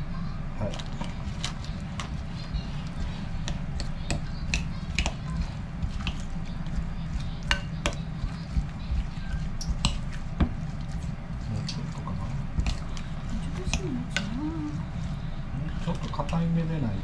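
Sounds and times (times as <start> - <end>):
steady low hum: 0.0 - 17.0
wet batter squishing: 0.5 - 17.0.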